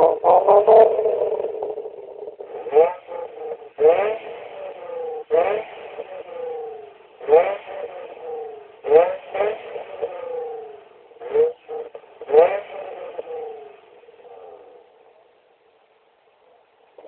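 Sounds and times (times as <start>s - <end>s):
sports car exhaust revving: 0.0s - 15.3s.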